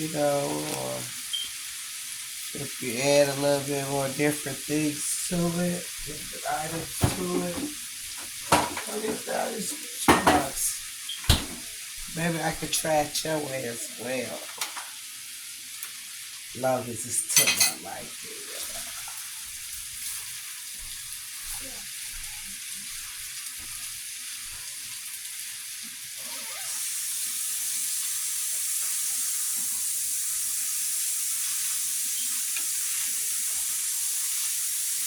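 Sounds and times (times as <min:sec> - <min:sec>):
rice sizzling in a pan: 0:00.0 - 0:35.0.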